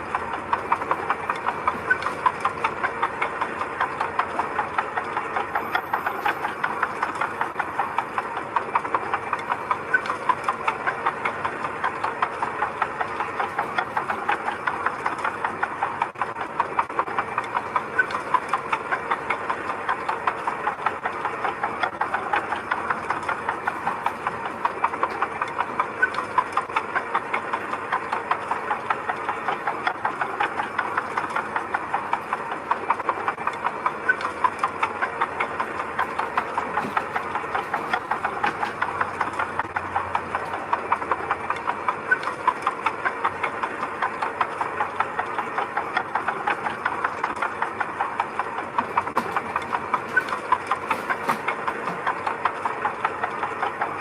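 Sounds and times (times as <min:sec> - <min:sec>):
small engine running with clatter: 0:00.0 - 0:54.0.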